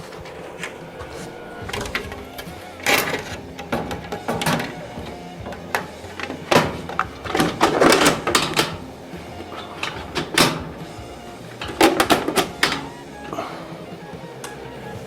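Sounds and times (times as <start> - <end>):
sheet metal knocks and rattles: 0.0 - 13.1.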